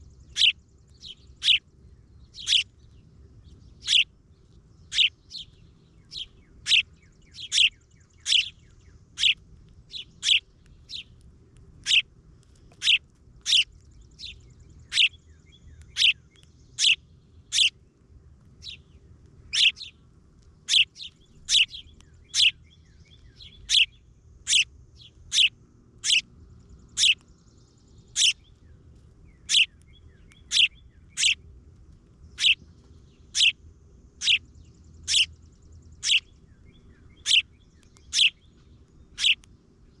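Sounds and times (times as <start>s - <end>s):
bird chirping: 0.0s - 11.2s, 11.8s - 17.8s, 18.6s - 20.0s, 20.6s - 31.4s, 32.2s - 33.6s, 34.2s - 40.0s.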